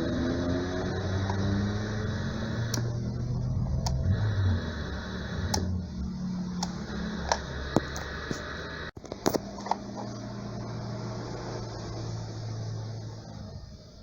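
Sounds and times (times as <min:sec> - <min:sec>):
tv speaker rumble and hum: 0:00.0 - 0:14.0.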